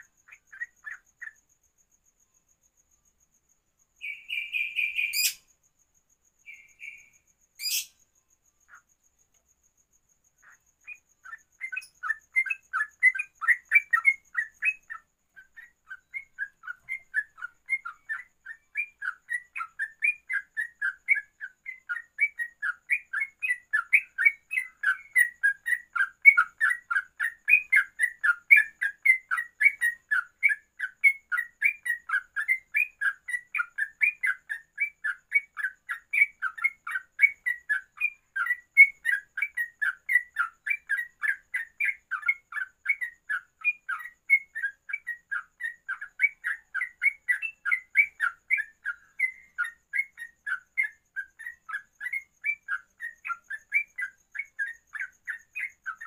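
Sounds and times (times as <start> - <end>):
bulbul singing rapid chirps: 0.0 - 2.2, 2.8 - 5.6, 6.2 - 56.0.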